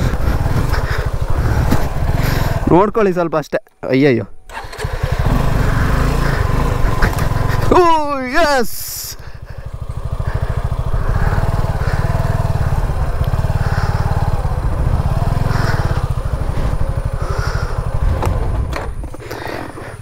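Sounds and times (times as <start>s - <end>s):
motorcycle engine running: 0.0s - 2.9s, 4.4s - 20.0s.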